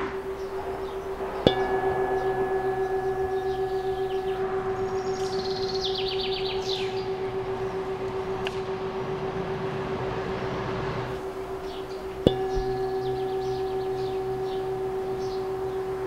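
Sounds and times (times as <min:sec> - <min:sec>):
birds chirping: 0:00.0 - 0:10.4, 0:11.1 - 0:16.0
singing bowl humming: 0:00.0 - 0:16.0.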